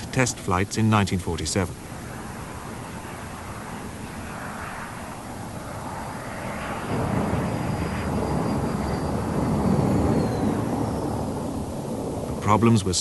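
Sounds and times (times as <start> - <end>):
jet aircraft rumble: 0.0 - 13.0
high whine falling in pitch: 1.8 - 12.9.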